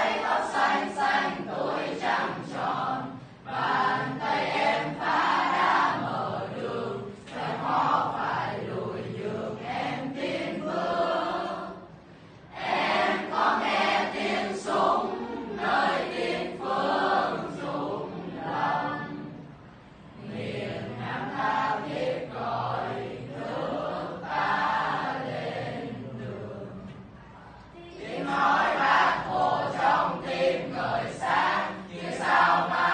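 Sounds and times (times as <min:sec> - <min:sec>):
group singing in chorus: 0:00.0 - 0:32.9.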